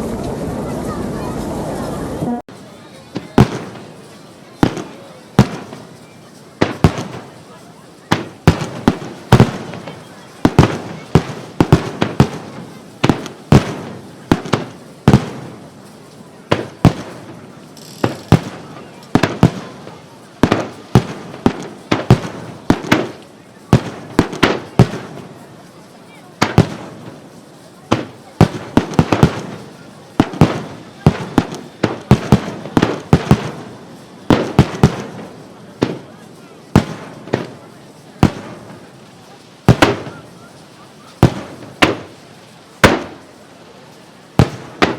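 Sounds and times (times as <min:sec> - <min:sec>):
firework shells bursting: 0:02.6 - 0:44.9.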